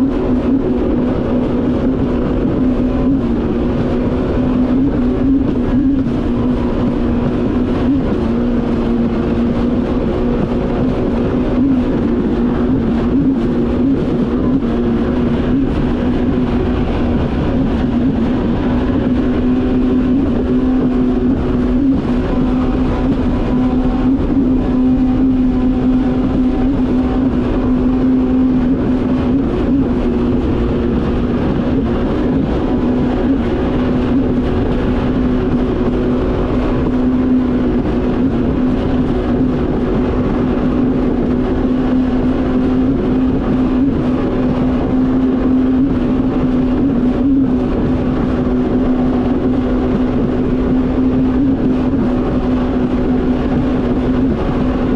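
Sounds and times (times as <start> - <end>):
jet ski engine running: 0.0 - 54.9
rush of water and wind: 0.0 - 54.9.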